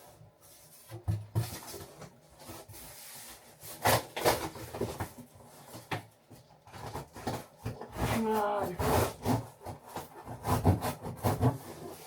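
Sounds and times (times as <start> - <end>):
packaging scraping and rubbing: 1.5 - 5.9, 6.7 - 12.0.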